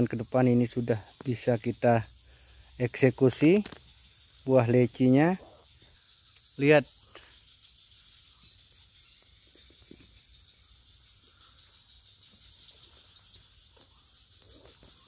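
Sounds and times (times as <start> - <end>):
insects chorus: 0.0 - 15.0
faint ticks and rustles: 0.4 - 15.0.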